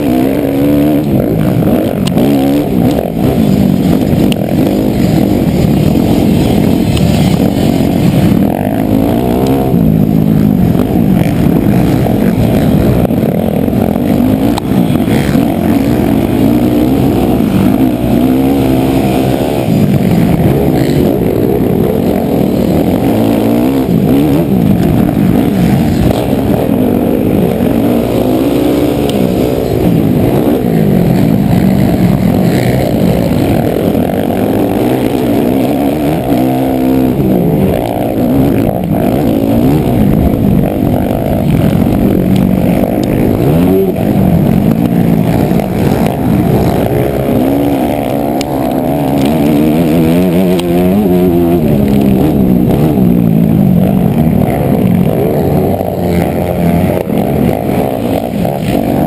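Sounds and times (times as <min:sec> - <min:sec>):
dirt bike engine revving: 0:00.0 - 0:59.0
other dirt bikes racing: 0:00.0 - 0:59.0.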